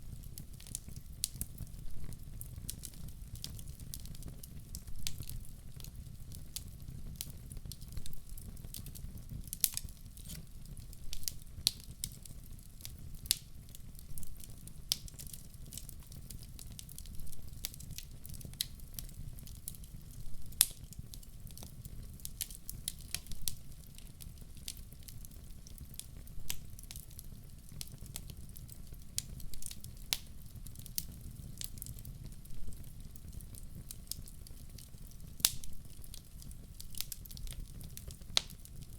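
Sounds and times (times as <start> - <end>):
burning logs crackling: 0.0 - 38.9.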